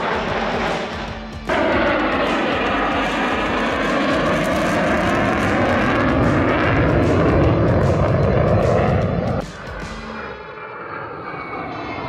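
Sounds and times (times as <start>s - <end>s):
jet engines flying past: 0.0s - 12.0s.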